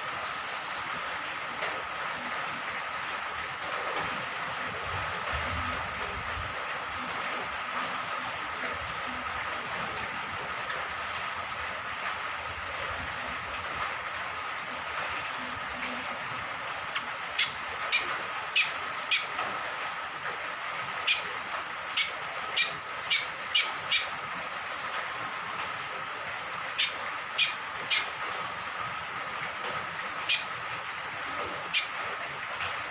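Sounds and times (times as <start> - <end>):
steady rain: 0.0 - 32.9.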